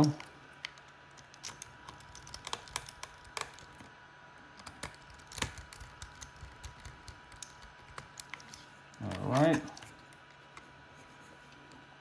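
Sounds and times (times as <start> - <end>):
screwdriver clicking on plastic shell: 0.0 - 3.9, 4.6 - 10.7.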